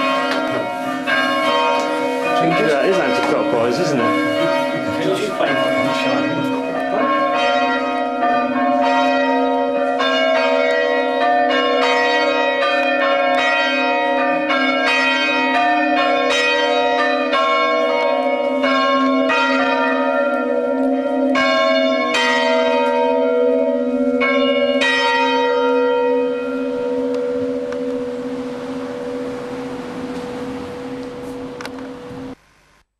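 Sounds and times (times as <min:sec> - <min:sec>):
church bells ringing: 0:00.0 - 0:32.4.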